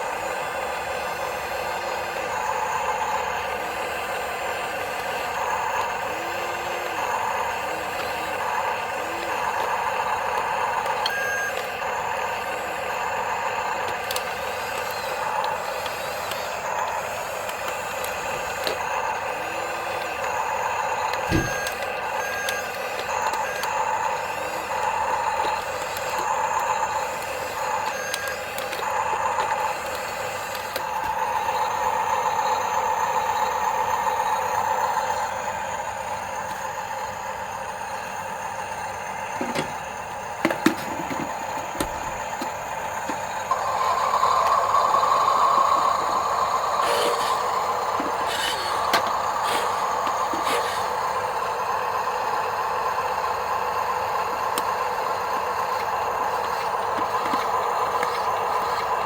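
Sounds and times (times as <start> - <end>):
small gear motors whining: 0.0 - 59.0.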